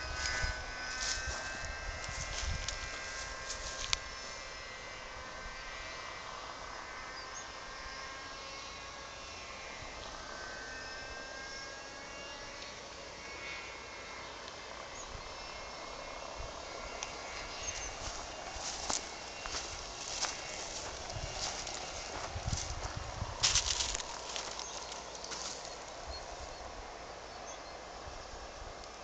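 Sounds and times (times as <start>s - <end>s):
distant engine drone: 0.0s - 29.0s
faint pitch-bending tones: 0.0s - 29.0s.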